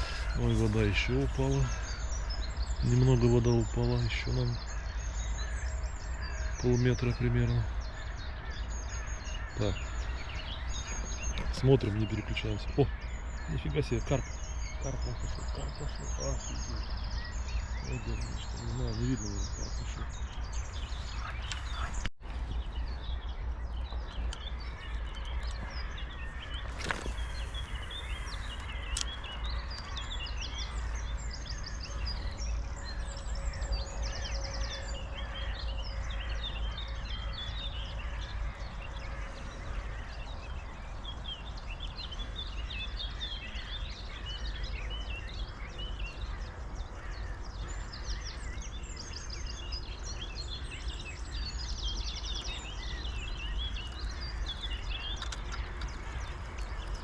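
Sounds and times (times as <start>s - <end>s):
small birds singing and chirping: 0.0s - 57.0s.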